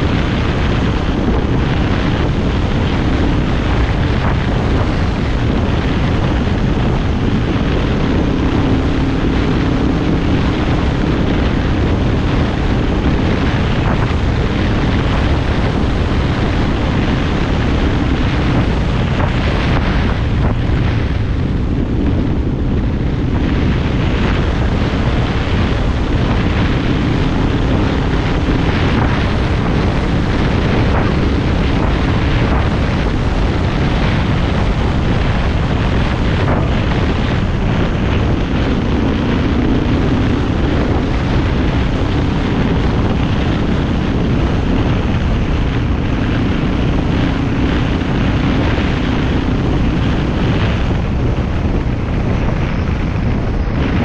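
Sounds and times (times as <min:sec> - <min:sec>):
engine drone: 0:00.0 - 0:54.0
vehicle rumble on dirt road: 0:00.0 - 0:54.0
wind buffeting microphone: 0:00.0 - 0:54.0.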